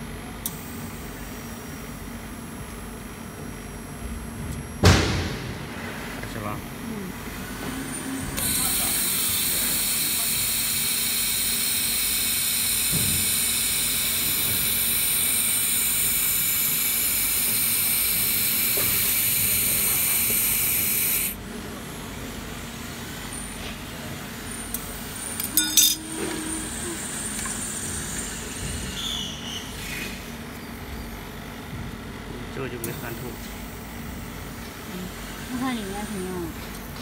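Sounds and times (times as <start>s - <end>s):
laser welder hiss and whine: 0.4s - 4.0s, 7.4s - 21.4s, 22.4s - 31.6s, 32.5s - 37.0s.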